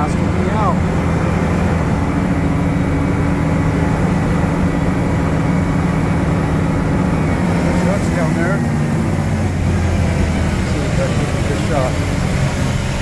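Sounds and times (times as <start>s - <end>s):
truck engine droning: 0.0s - 13.0s.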